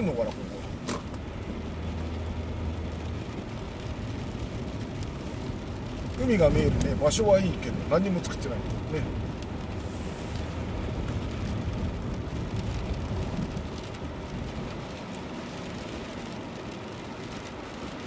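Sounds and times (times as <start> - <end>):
car tyres and engine rumble: 0.0 - 18.0
water and rain hiss: 0.0 - 18.0.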